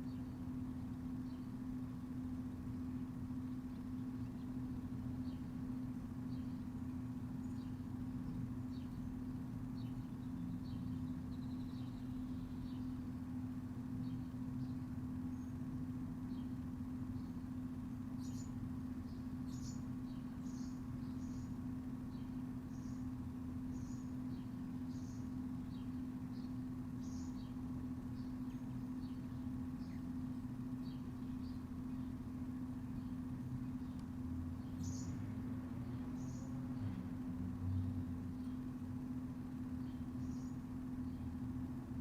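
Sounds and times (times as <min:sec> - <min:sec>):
low mechanical hum: 0:00.0 - 0:42.0
small birds chirping: 0:00.0 - 0:42.0.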